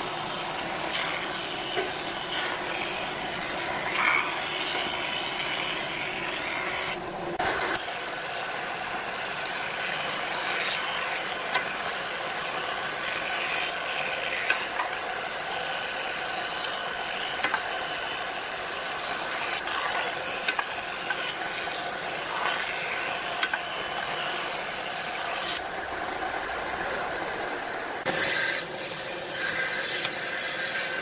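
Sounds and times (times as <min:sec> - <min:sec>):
machine running steadily: 0:00.0 - 0:31.0.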